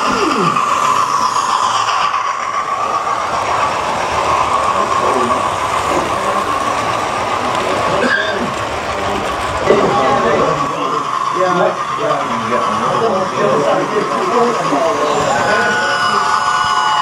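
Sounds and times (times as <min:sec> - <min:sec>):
model train wheels whirring: 0:00.0 - 0:17.0.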